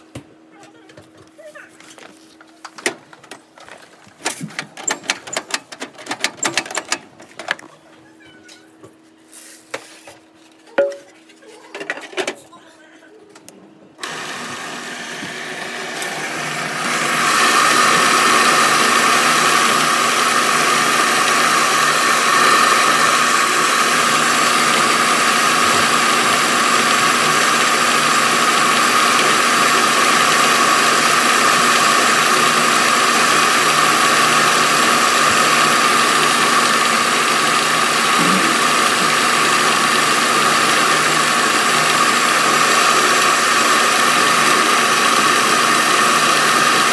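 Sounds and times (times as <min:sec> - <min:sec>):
rice milling machine whirring: 0:00.0 - 0:08.0, 0:13.9 - 0:46.9.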